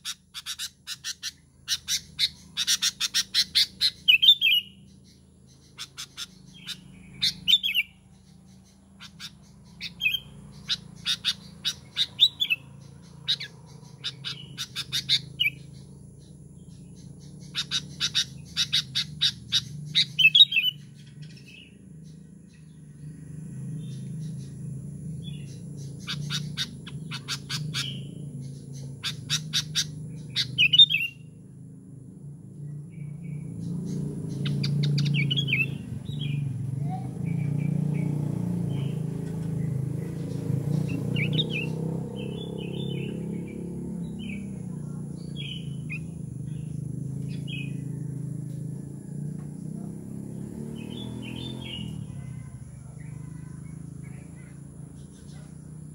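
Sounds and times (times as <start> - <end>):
bird chattering and whistling: 0.0 - 23.0, 23.7 - 31.4, 32.6 - 49.1, 49.7 - 55.9.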